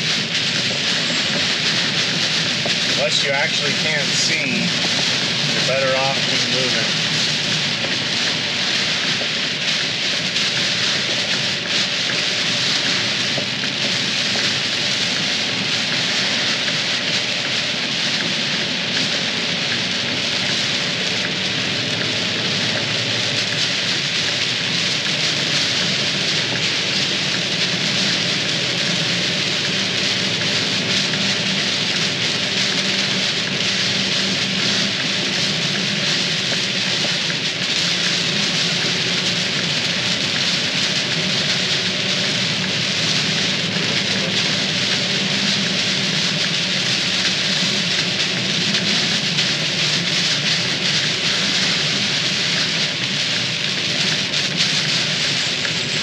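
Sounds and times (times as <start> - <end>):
heavy rain on truck: 0.0 - 56.0
truck engine droning: 0.0 - 56.0.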